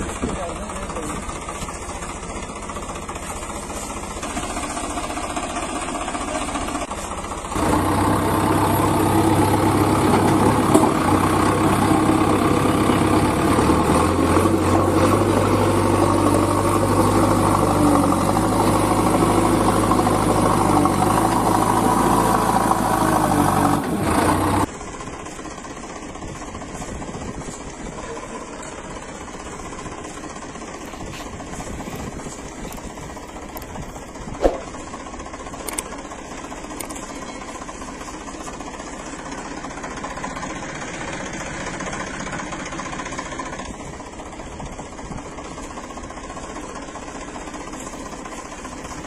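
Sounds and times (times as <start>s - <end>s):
engine running: 0.0s - 49.0s.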